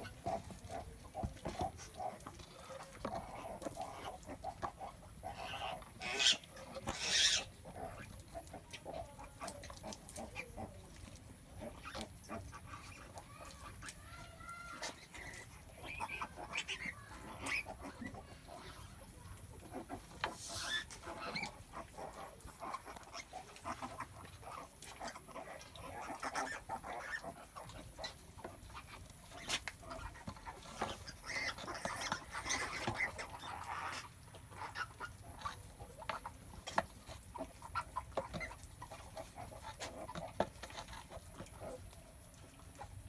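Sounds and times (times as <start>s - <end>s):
pigs and piglets calling: 0.0s - 43.0s.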